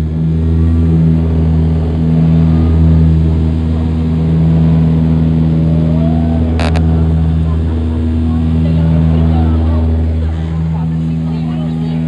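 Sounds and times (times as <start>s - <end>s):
propeller engine drone: 0.0s - 12.0s.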